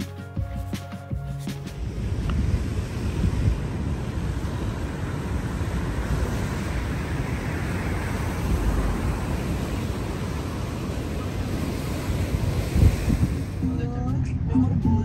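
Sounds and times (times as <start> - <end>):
surf breaking on shore: 1.5 - 14.5
wind buffeting microphone: 1.7 - 15.0.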